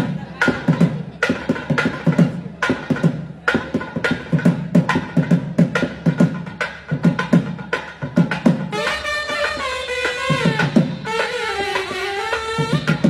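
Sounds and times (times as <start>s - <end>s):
drum playing fast rhythm: 0.0s - 13.0s.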